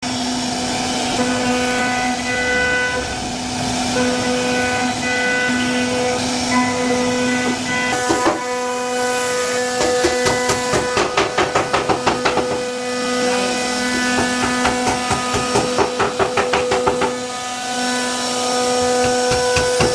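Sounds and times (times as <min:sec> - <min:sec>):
router cutting wood: 0:00.0 - 0:19.9.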